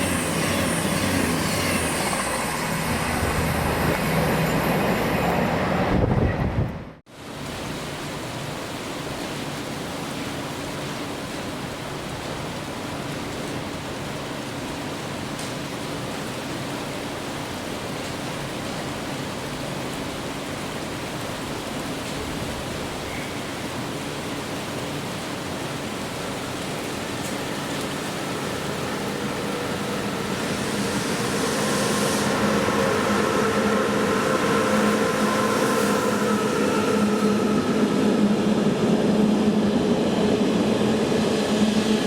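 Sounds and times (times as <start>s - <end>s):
train humming drone: 0.0s - 7.8s, 10.4s - 42.0s.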